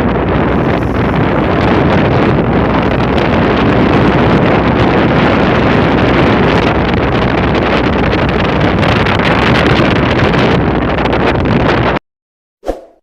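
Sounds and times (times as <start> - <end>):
rough sea rushing: 0.0 - 11.9
wind buffeting microphone: 0.0 - 12.0.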